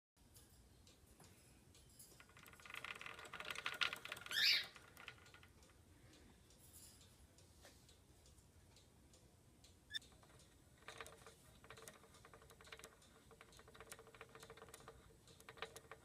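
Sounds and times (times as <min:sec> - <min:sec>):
light mechanical clicking: 0:00.3 - 0:16.0.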